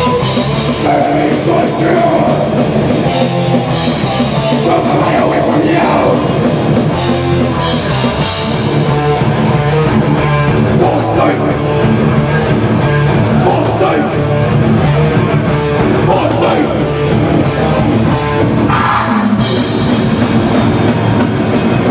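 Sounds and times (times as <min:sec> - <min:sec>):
distorted electric guitars: 0:00.0 - 0:21.9
drum kit: 0:00.0 - 0:21.9.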